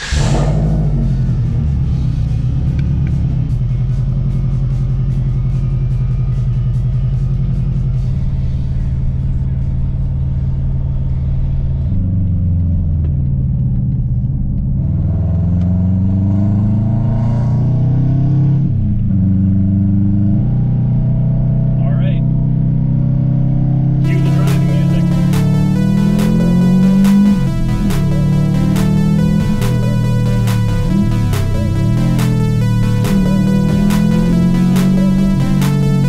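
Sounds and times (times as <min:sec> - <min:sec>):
car engine and exhaust accelerating: 0:00.0 - 0:36.0.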